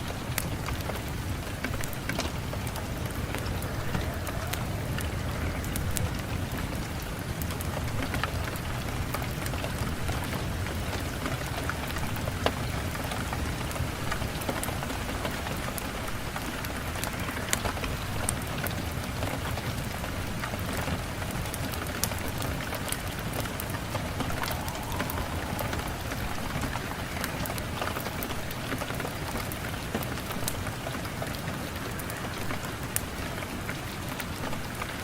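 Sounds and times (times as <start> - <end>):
steady rain falling: 0.0 - 35.0
wood fire crackling: 0.0 - 35.0.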